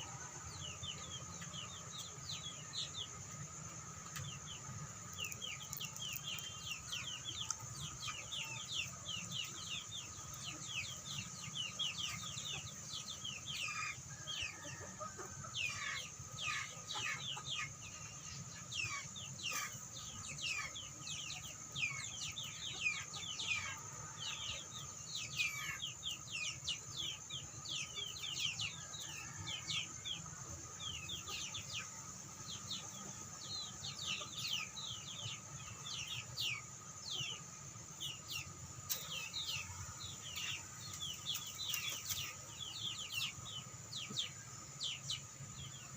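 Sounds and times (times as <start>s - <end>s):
chickens peeping: 0.0s - 45.9s.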